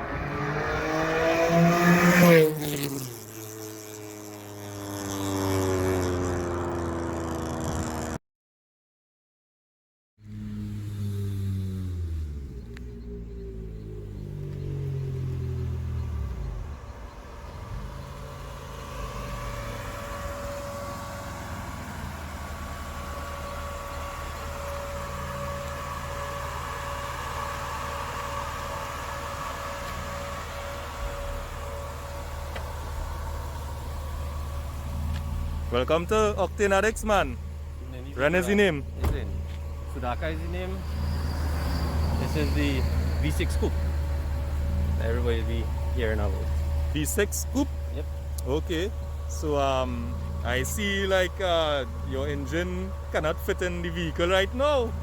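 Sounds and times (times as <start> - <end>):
car engine accelerating: 0.0 - 8.2, 10.2 - 55.0.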